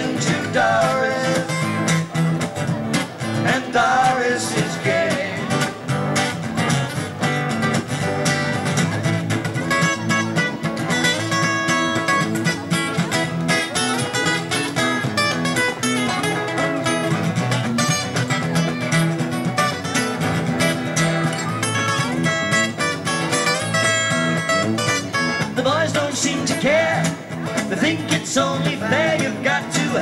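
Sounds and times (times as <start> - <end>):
acoustic guitars strumming: 0.0 - 30.0
picked guitar lead line: 0.0 - 30.0.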